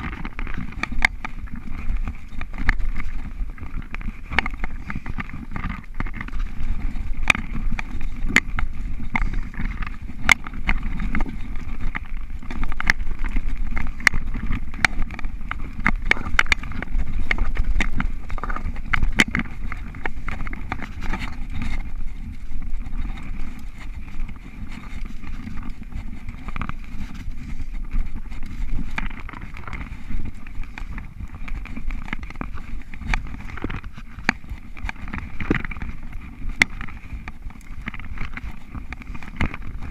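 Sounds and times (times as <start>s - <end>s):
bike knocks and rattles: 0.0s - 39.9s
bike tyres rumbling on trail: 0.0s - 39.9s.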